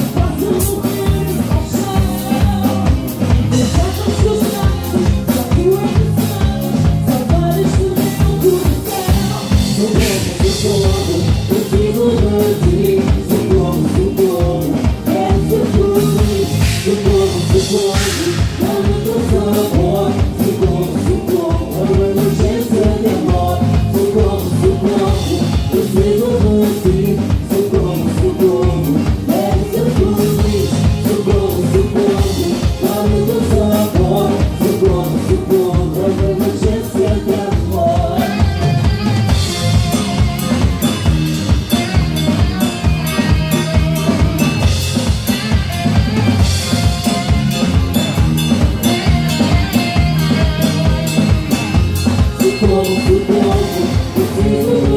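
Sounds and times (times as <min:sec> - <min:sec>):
drum kit beat: 0:00.0 - 0:54.9
live band instrumental: 0:00.0 - 0:54.9
high-pitched instruments: 0:07.6 - 0:54.9.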